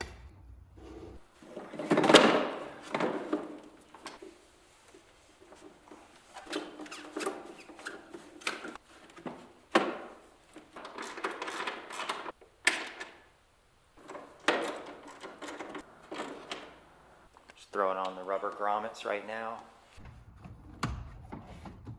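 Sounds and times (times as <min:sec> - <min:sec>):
plastic parts knocking and rattling: 0:01.3 - 0:13.3, 0:14.0 - 0:19.6.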